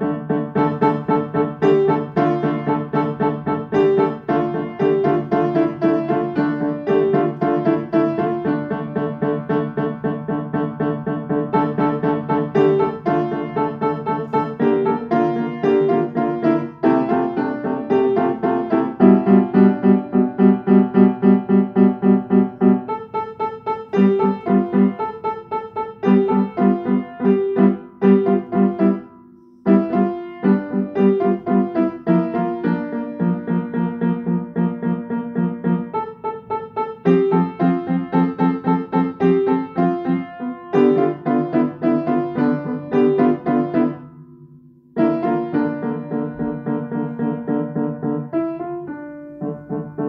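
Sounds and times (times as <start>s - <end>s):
piano music: 0.0s - 50.0s.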